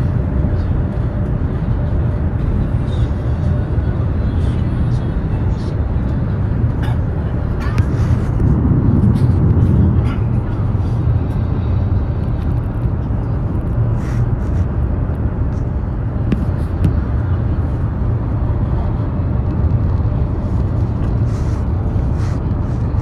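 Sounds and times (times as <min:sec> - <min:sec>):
train cabin rumble: 0:00.0 - 0:23.0.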